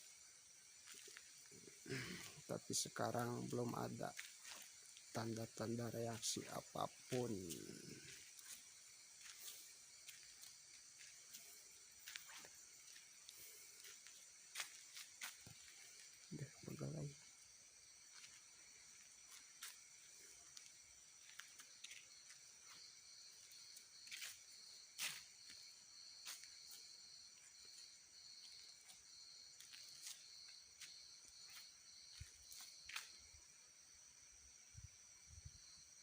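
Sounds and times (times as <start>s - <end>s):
crickets and insects chirping: 0.0s - 36.0s.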